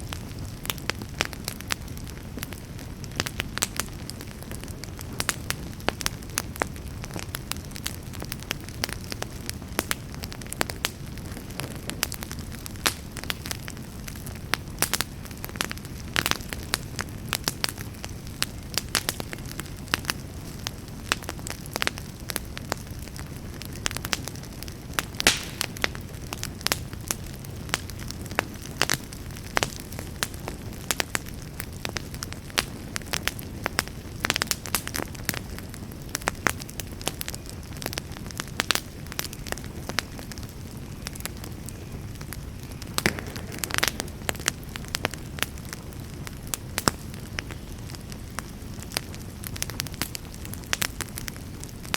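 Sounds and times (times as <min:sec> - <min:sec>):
campfire crackling and popping: 0:00.0 - 0:51.9
low rumble of flame: 0:00.0 - 0:51.9.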